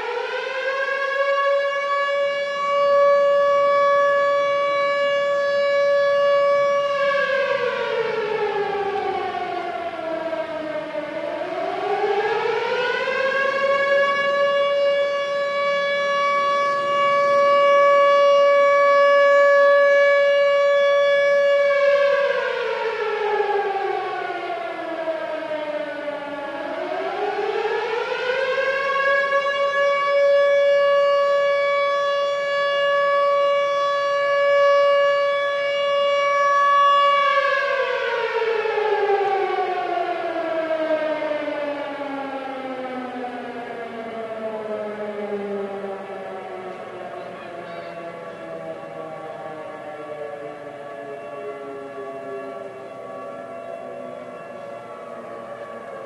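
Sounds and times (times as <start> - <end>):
air raid siren wailing: 0.0 - 56.0.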